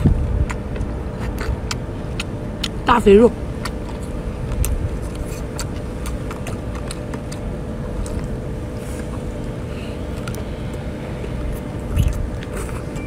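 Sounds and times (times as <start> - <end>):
low engine rumble: 0.0 - 13.0
person eating crab: 0.0 - 13.0.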